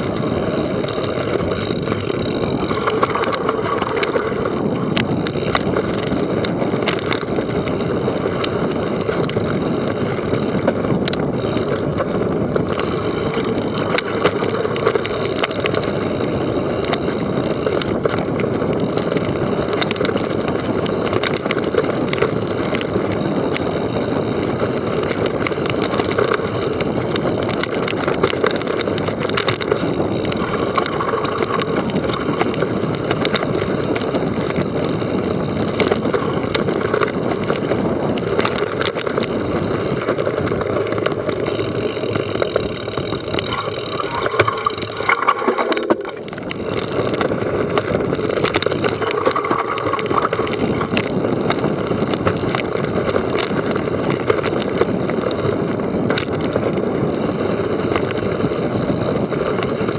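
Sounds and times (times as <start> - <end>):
bike clicking and rattling: 0.0 - 59.9
bike tyre noise: 0.0 - 59.9.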